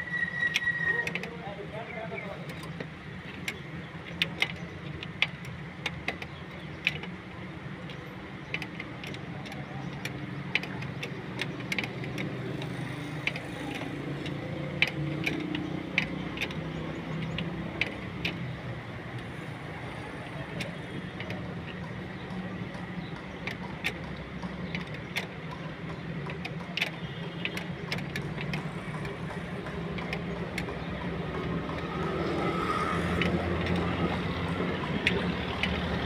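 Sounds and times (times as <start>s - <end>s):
wrench clicking on metal fittings: 0.1s - 1.5s, 7.9s - 36.0s.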